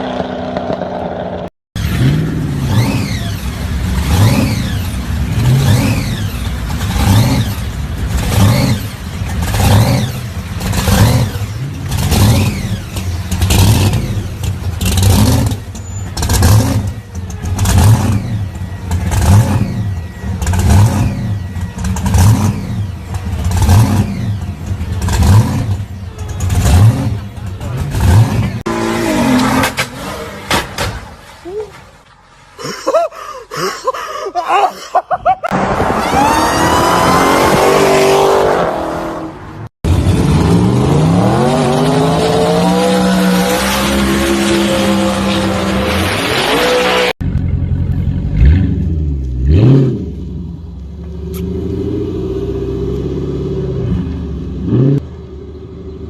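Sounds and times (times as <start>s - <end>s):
car engine revving: 0.0s - 30.9s, 35.5s - 56.0s.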